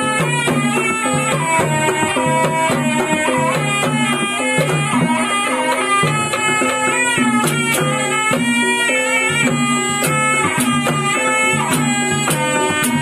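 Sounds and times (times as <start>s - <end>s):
drum strokes: 0.0s - 13.0s
gamelan: 0.0s - 13.0s
reedy shawm melody: 0.0s - 13.0s.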